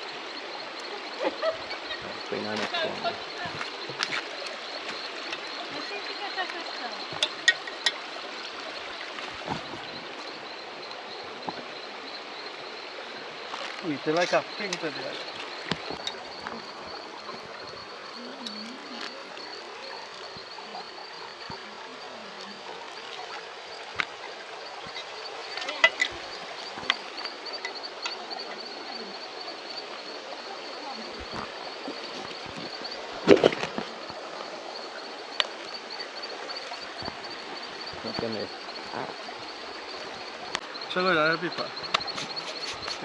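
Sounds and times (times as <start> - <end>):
river water running: 0.0 - 43.0.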